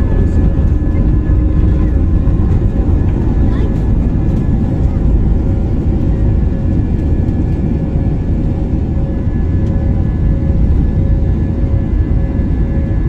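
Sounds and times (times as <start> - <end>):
faint engine hum: 0.0 - 13.0
jet engine cabin rumble: 0.0 - 13.0.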